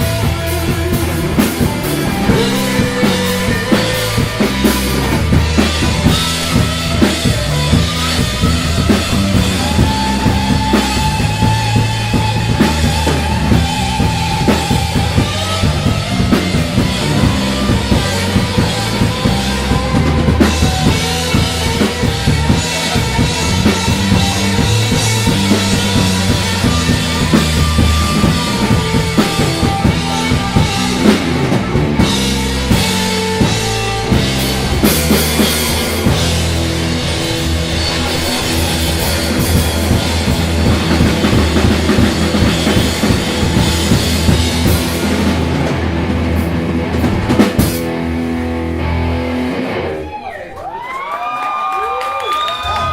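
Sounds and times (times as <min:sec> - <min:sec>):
drum kit beat: 0:00.0 - 0:49.9
rock band playing: 0:00.0 - 0:51.2.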